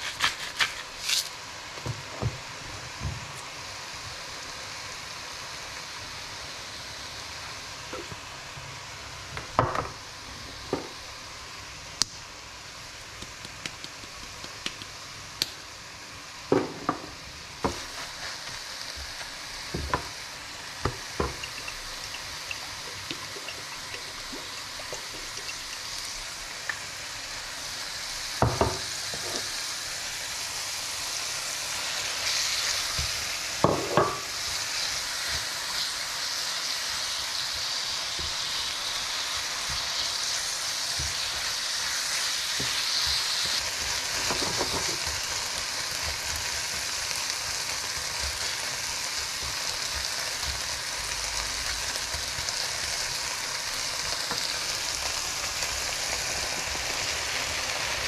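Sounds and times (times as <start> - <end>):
spinach sizzling in frying pan: 0.0 - 58.0.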